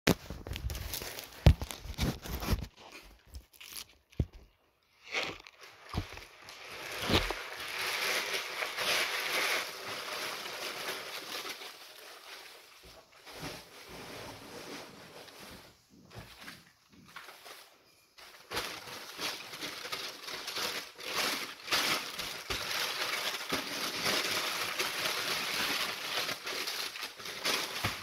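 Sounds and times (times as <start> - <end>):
paper crinkling and rustling: 0.1 - 4.5, 5.1 - 28.0.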